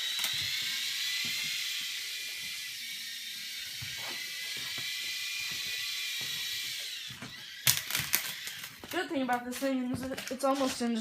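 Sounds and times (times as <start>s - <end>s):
toy helicopter motor whine: 0.0s - 11.0s.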